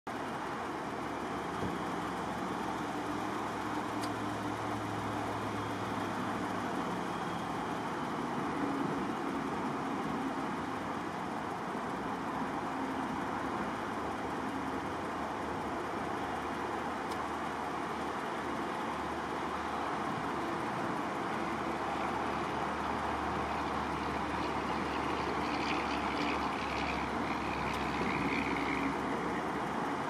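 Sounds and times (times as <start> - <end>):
faint engine hum: 0.1 - 30.0
tyres rushing on highway: 0.1 - 30.0.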